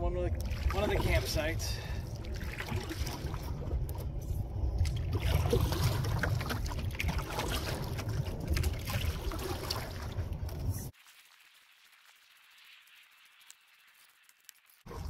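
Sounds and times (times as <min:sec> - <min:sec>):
water lapping against canoe hull: 0:00.3 - 0:12.8.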